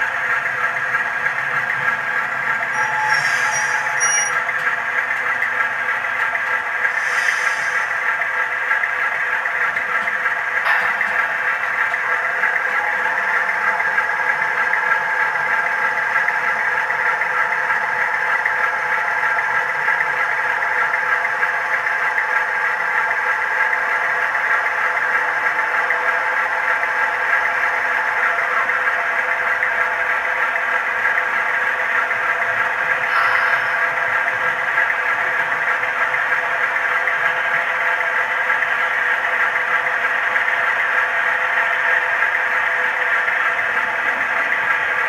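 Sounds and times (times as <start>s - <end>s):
diesel engine idling through small speaker: 0.0s - 45.0s.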